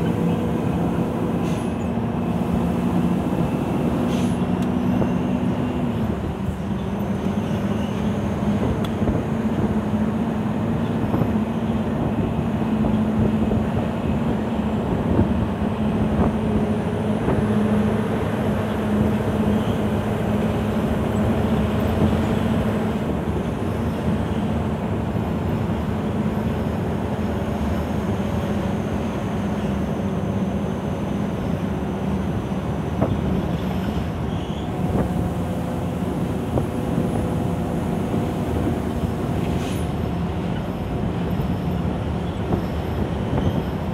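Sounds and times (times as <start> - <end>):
diesel engine drone from inside cab: 0.0 - 43.9
road noise: 0.0 - 43.9.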